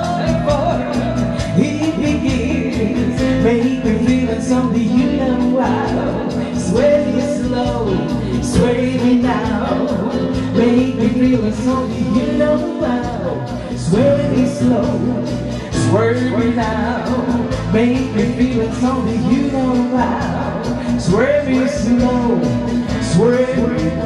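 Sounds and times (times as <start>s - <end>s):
amplified music with steady beat: 0.0s - 24.0s
woman singing into microphone: 0.0s - 24.0s.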